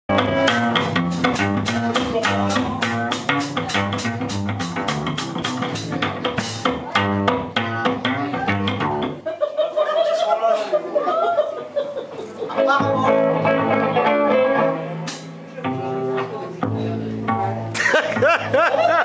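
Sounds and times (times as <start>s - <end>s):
drum kit: 0.1s - 9.2s, 12.8s - 19.0s
electric guitar: 0.1s - 9.2s, 12.5s - 19.0s
plucked double bass: 0.1s - 9.3s, 12.6s - 19.0s.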